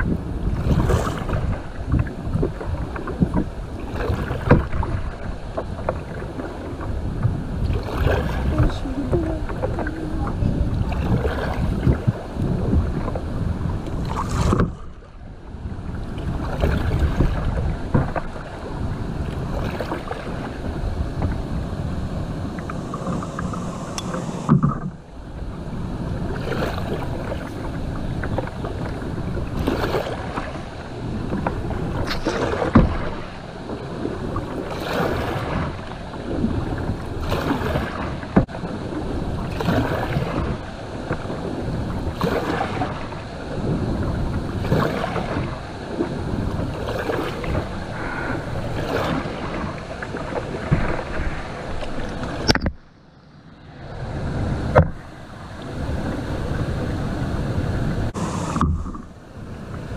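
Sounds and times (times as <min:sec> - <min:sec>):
wind buffeting microphone: 0:00.0 - 0:52.9, 0:53.6 - 0:59.9
water rushing along a hull: 0:00.0 - 0:59.9.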